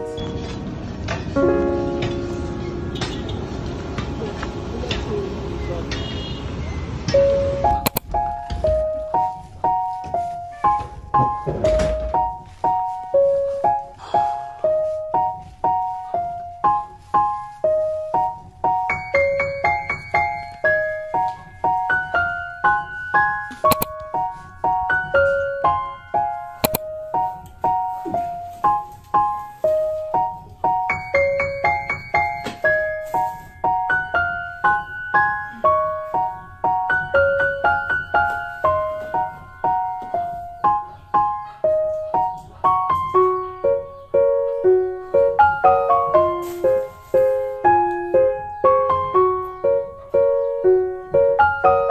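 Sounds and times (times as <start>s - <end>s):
gentle piano melody: 0.0s - 51.9s.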